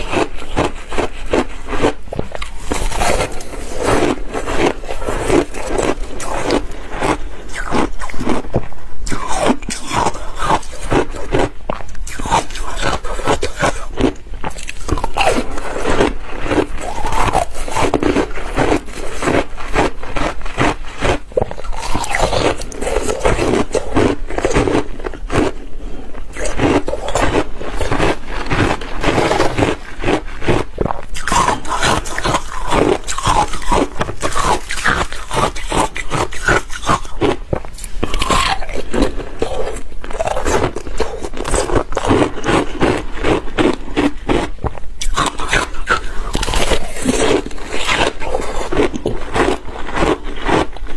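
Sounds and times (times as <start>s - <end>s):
crunching and chewing ice: 0.0s - 50.9s.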